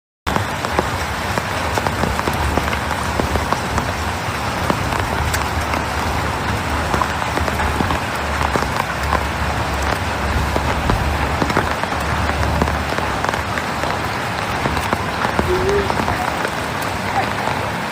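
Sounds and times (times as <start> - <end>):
heavy rain on hard surfaces: 0.3 - 17.9.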